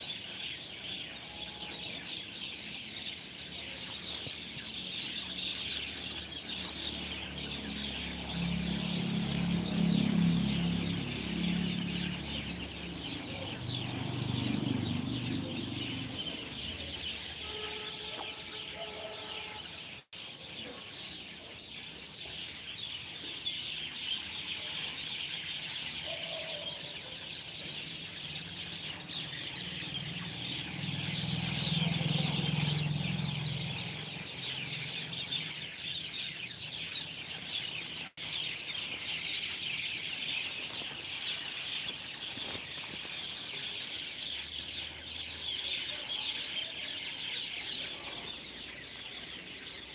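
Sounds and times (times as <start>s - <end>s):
many birds chirping: 0.0s - 49.9s.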